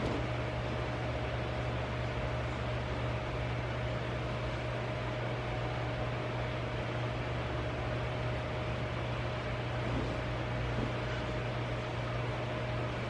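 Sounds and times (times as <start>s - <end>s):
faint constant whine: 0.0s - 13.0s
machine hum and hiss: 0.0s - 13.0s.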